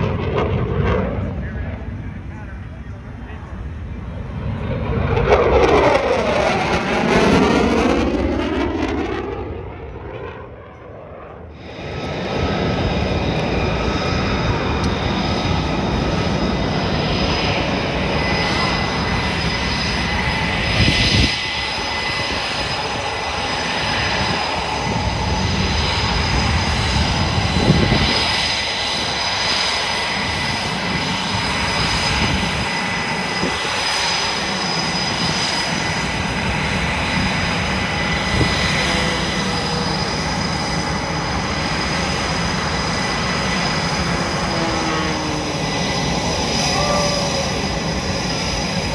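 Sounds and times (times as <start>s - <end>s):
jet engines whining at idle: 0.0s - 48.9s
jet fighter passing: 0.0s - 48.9s.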